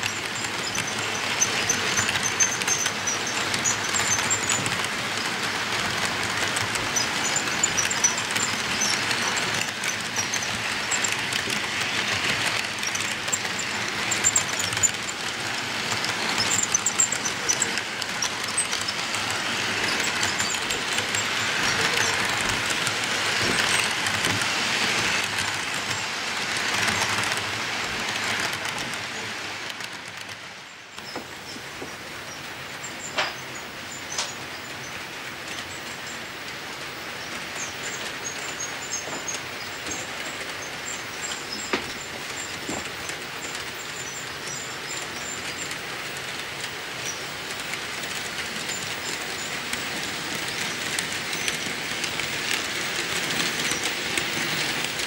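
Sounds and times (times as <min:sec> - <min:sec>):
sharp track clicks: 0:00.0 - 0:31.4, 0:34.0 - 0:55.0
model train wheels rattling: 0:00.0 - 0:55.0.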